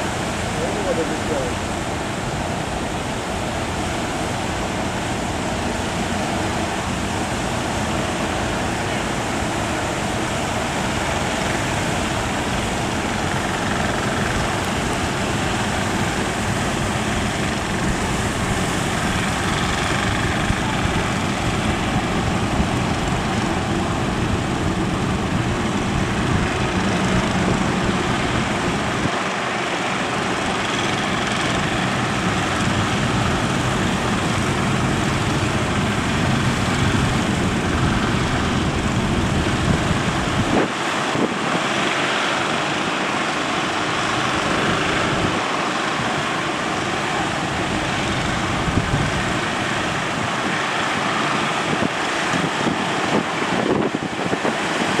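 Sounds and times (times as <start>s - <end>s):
boat engine running: 0.0s - 55.0s
surf rushing: 0.0s - 55.0s
wind buffeting microphone: 0.0s - 55.0s.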